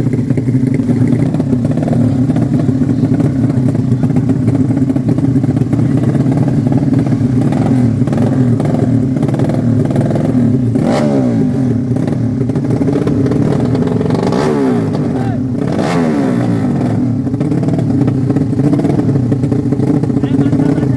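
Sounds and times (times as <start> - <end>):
motorcycle engines revving: 0.0 - 20.9.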